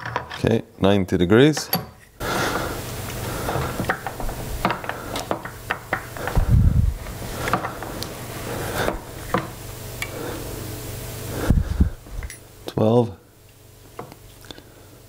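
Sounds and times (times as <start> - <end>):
steady low hum: 0.6 - 15.0.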